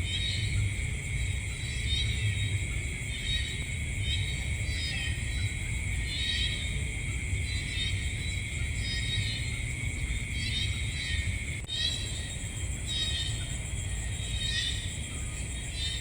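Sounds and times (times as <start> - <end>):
insects trilling drone: 0.0 - 16.0.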